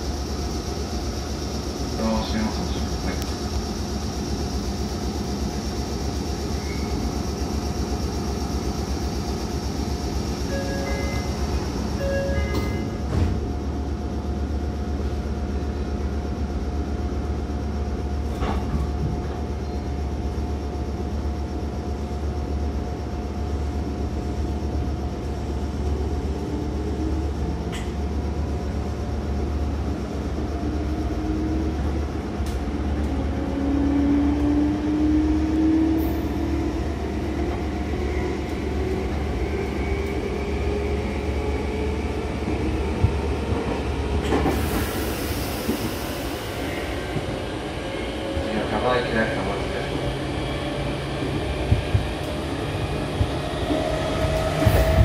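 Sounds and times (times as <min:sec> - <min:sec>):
train low hum: 0:00.0 - 0:55.0.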